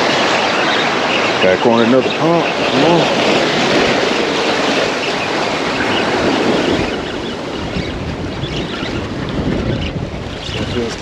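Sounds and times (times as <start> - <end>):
waves: 0.0 - 11.0
wind: 0.0 - 11.0
wind buffeting microphone: 0.0 - 11.0.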